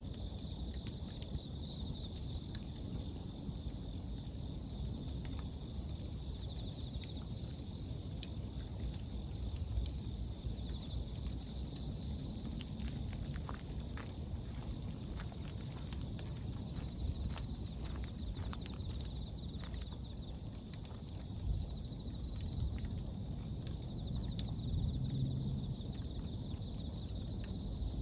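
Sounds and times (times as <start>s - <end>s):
bonfire crackling and popping: 0.0s - 28.0s
crickets singing a pulsing trill: 0.0s - 28.0s.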